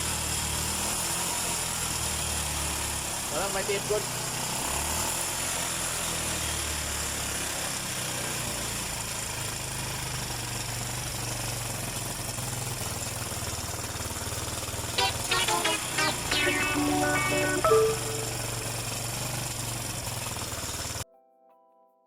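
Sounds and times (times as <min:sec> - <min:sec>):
small engine idling: 0:00.0 - 0:15.8, 0:16.4 - 0:21.0.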